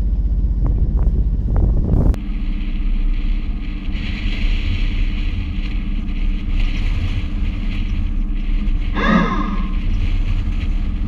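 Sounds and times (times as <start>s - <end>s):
boat engine humming: 0.0s - 11.0s
wind and water hiss: 0.2s - 11.0s.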